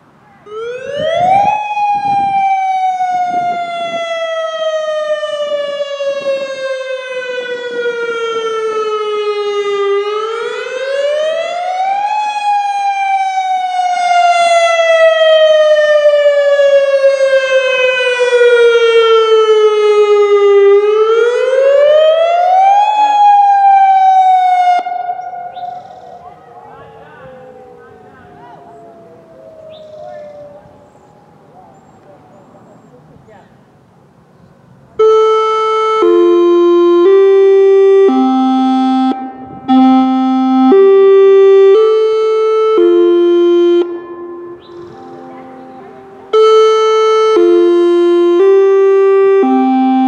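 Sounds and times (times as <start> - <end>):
electronic siren wailing: 0.4 - 31.8, 35.0 - 50.0.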